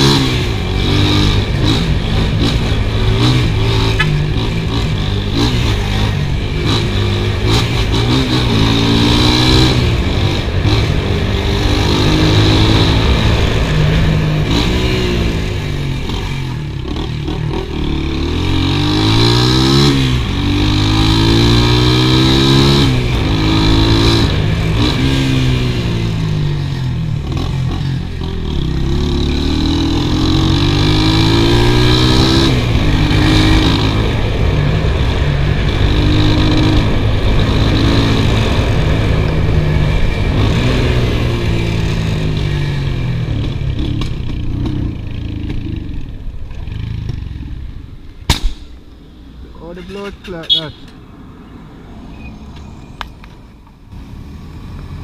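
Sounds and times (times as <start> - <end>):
motorcycle engine accelerating: 0.0 - 49.7.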